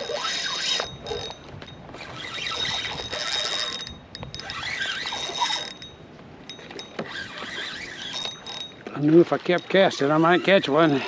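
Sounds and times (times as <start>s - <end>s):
fishing reel ratcheting whir: 0.0s - 9.0s.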